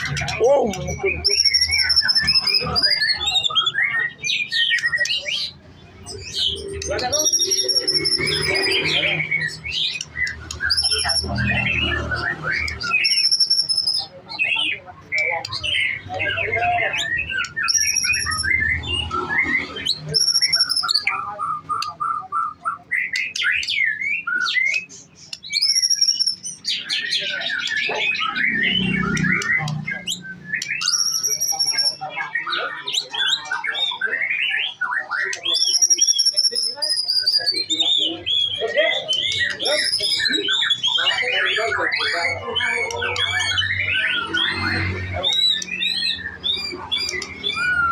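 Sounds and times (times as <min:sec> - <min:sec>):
songbird whistling and chirping: 0:00.0 - 0:47.9.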